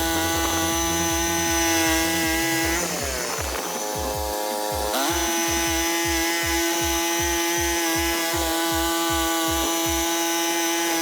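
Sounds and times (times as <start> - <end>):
power saw engine revving: 0.0 - 11.0.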